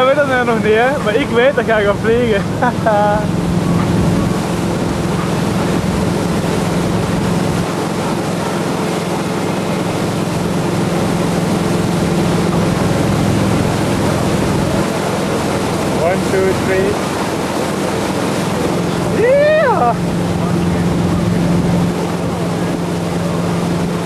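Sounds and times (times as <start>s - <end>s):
boat engine droning: 0.0s - 24.0s
water rushing in wake: 0.0s - 24.0s.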